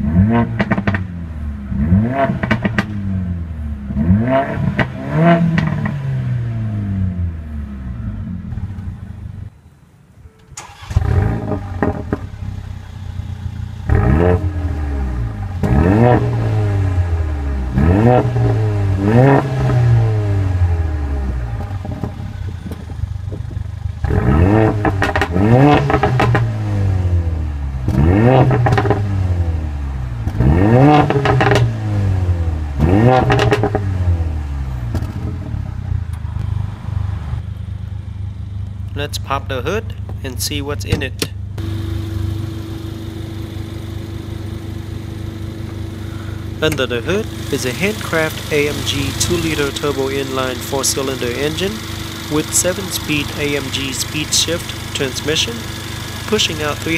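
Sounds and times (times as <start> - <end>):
car engine revving: 0.0 - 9.6, 10.6 - 56.9.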